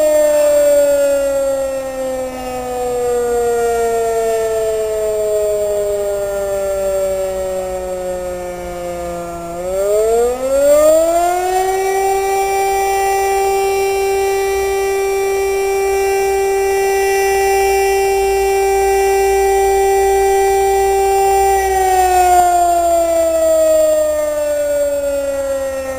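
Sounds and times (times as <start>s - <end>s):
siren two-note wail: 0.0s - 25.9s.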